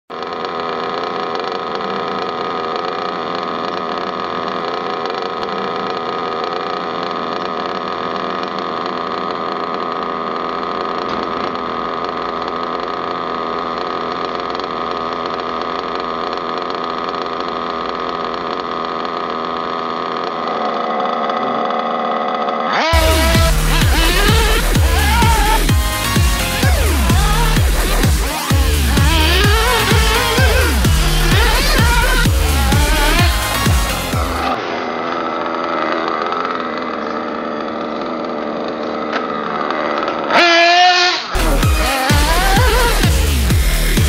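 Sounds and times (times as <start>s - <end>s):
model engine running: 0.1s - 44.0s.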